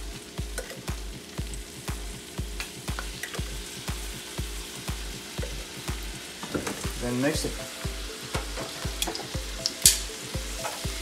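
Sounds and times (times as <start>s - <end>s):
mushrooms and onions sizzling in pan: 0.0s - 11.0s.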